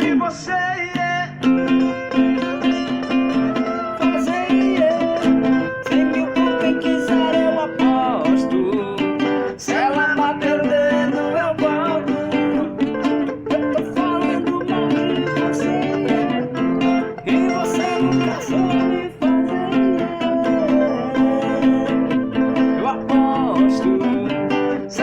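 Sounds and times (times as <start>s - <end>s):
acoustic guitar: 0.0s - 25.0s
person singing: 0.0s - 25.0s.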